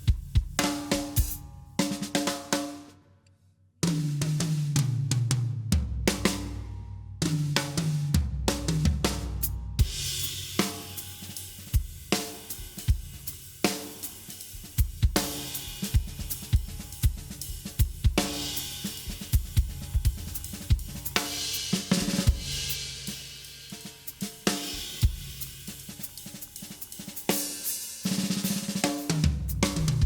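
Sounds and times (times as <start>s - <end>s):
drum kit groove: 0.0s - 2.9s, 3.8s - 30.0s.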